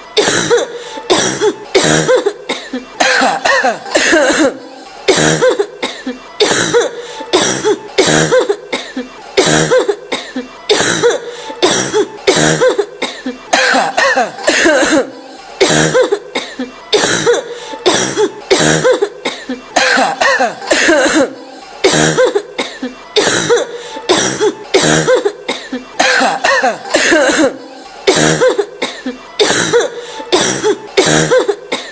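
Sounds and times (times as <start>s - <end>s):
woman coughing: 0.2s - 31.9s.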